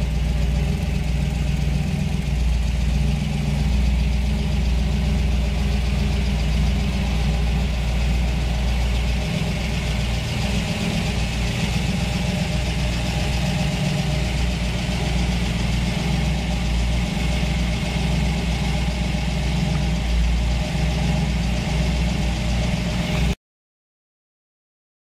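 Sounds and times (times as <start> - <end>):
car engine idling: 0.0 - 23.4.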